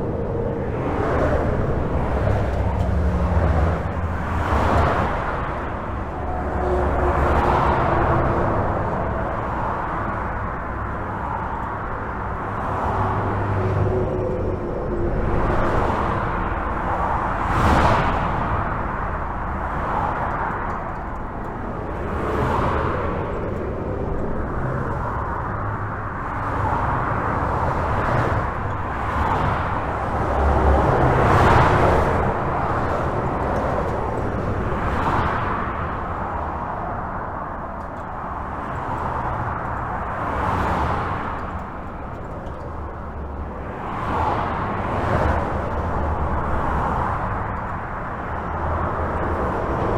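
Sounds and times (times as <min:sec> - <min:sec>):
car passing: 0:00.0 - 0:49.9
highway traffic rumble: 0:00.0 - 0:49.9.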